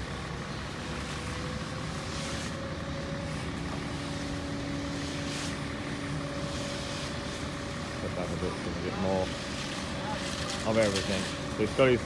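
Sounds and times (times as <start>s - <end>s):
vehicle engines droning: 0.0s - 12.0s.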